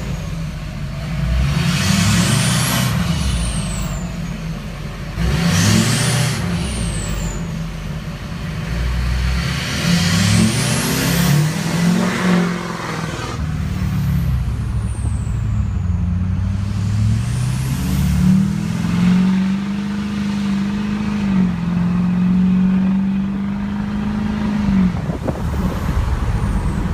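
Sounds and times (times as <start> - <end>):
diesel truck engine droning: 0.0 - 26.9.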